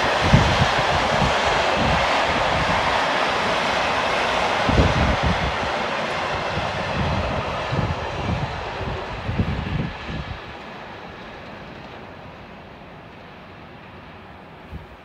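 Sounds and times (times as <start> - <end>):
freight train wheels rumbling on track: 0.0 - 15.0.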